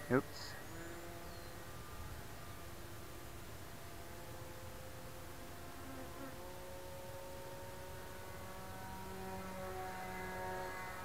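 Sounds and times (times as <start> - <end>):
model plane motor buzzing: 0.0 - 11.0.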